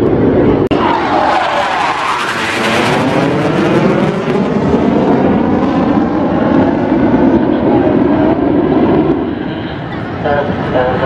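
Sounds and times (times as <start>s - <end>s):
jet aircraft flying overhead: 0.0s - 11.0s.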